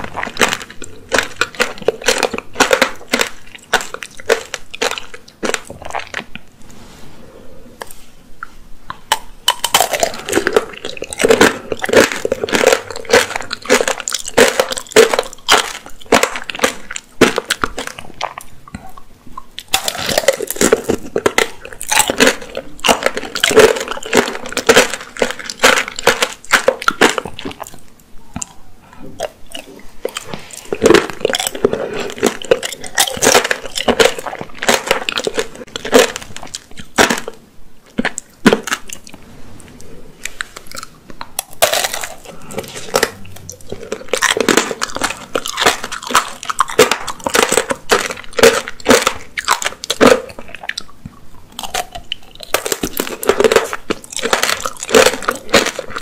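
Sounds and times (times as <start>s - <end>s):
crunching hard candy shell: 0.0s - 6.4s, 9.1s - 18.6s, 19.4s - 28.6s, 29.2s - 39.1s, 40.4s - 56.0s.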